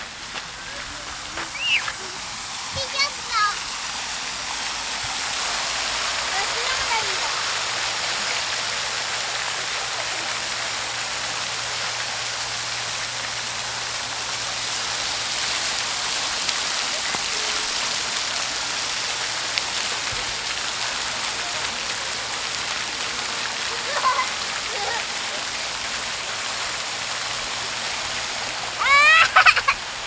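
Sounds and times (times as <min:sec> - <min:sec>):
water feature splashing: 0:00.0 - 0:30.0.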